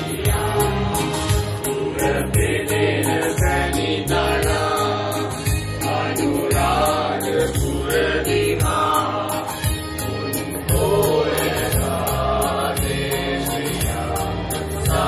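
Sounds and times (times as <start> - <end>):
instrumental accompaniment with beat: 0.0 - 15.0
mixed choir singing: 0.0 - 15.0.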